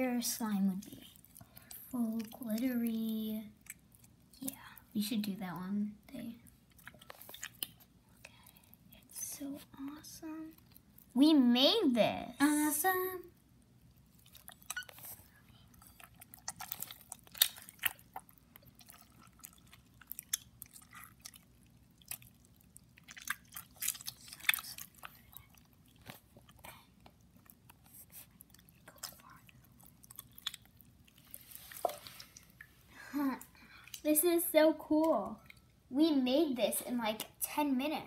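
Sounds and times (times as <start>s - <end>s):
slime squelching: 0.0s - 35.9s.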